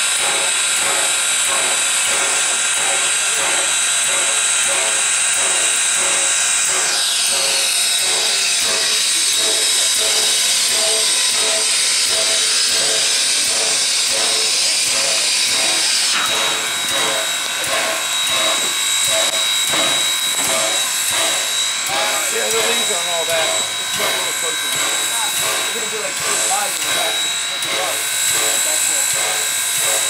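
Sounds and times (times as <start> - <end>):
rhythmic pulsing: 0.0 - 30.0
steam locomotive venting steam: 0.0 - 30.0.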